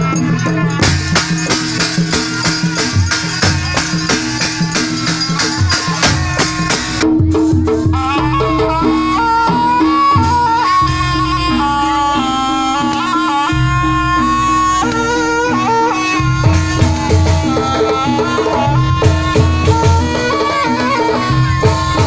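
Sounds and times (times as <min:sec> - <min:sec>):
drum strokes: 0:00.0 - 0:22.0
rattling percussion: 0:00.0 - 0:22.0
reed pipe melody: 0:00.0 - 0:22.0.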